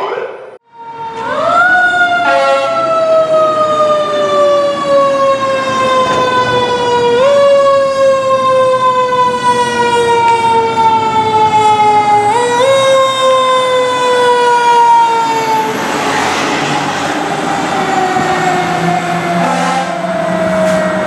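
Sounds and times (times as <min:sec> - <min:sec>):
mechanical siren wailing: 0:00.6 - 0:21.0.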